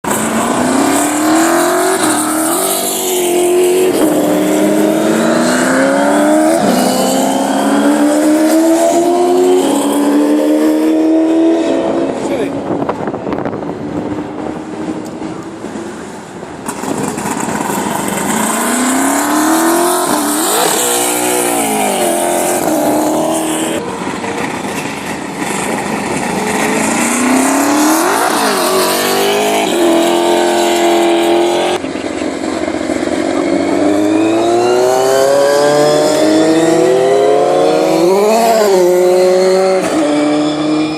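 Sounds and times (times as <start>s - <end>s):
race cars accelerating: 0.1s - 40.9s.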